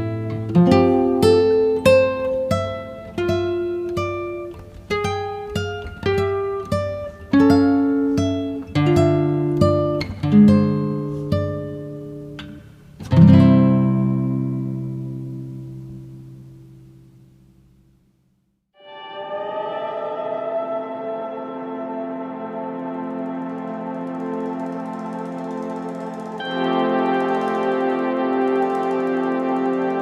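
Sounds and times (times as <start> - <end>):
slow acoustic guitar piece: 0.0 - 18.0, 18.8 - 30.0.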